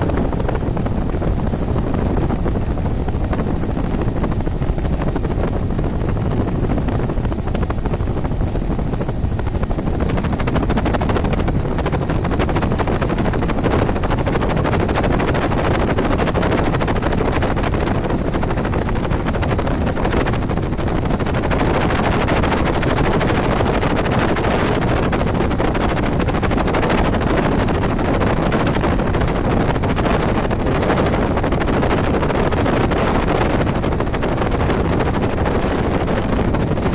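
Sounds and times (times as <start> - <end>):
helicopter rotor and engine: 0.0 - 36.9.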